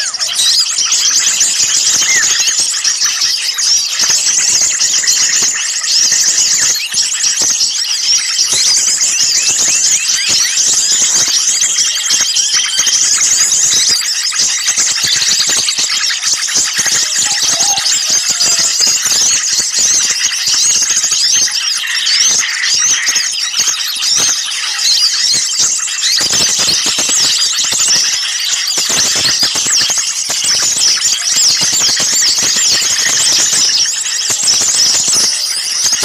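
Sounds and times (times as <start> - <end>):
small songbirds chirping and twittering: 0.0 - 36.0.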